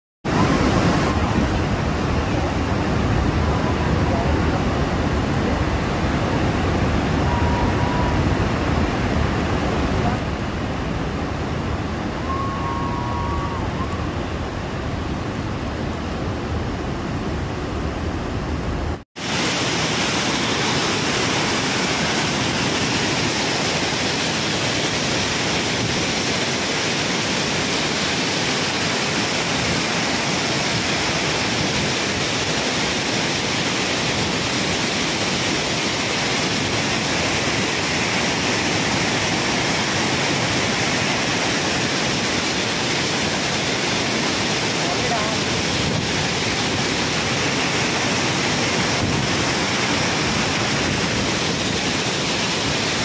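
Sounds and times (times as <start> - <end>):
waterfall rushing over rocks: 0.2 - 53.0.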